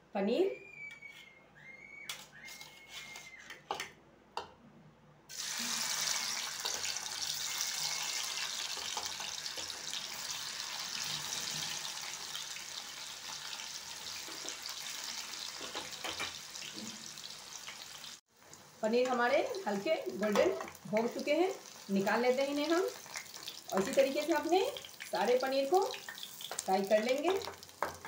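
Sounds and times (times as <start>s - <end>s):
cheese sizzling in hot oil: 5.3s - 28.0s.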